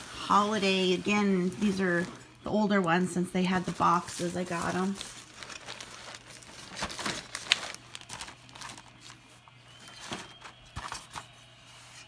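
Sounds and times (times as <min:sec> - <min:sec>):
plastic wrapping crinkling: 0:00.0 - 0:11.3.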